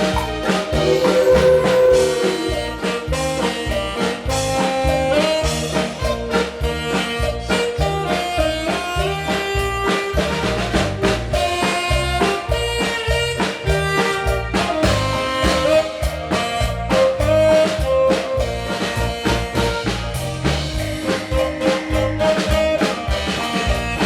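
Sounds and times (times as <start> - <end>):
bass: 0.0 - 24.0
drum kit: 0.0 - 24.0
saxophone melody: 0.0 - 24.0.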